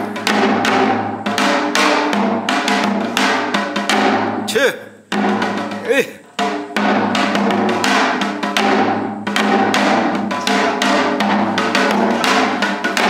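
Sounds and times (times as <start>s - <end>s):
drums and percussion music: 0.0s - 13.0s.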